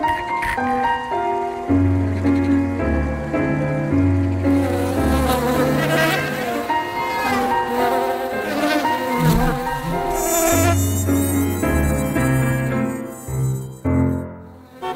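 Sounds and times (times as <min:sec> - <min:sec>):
background music low notes: 0:00.0 - 0:14.6
flying insects buzzing: 0:00.0 - 0:14.9.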